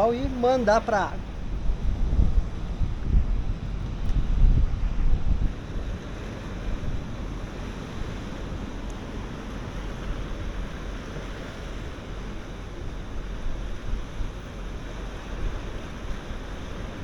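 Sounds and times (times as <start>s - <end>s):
rough sea surf: 0.0s - 17.0s
strong wind: 0.0s - 17.0s
wind buffeting microphone: 0.0s - 17.0s.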